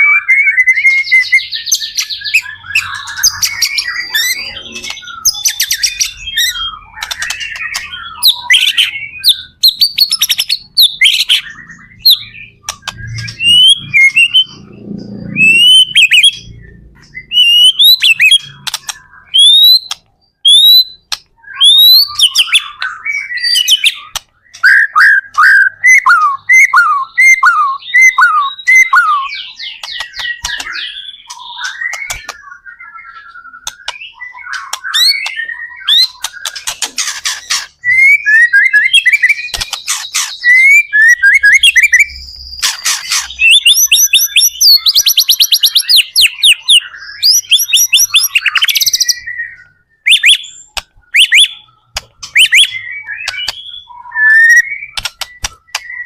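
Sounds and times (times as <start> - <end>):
songbird whistling song: 0.0 - 56.0
fast rattling bird trills: 0.7 - 56.0.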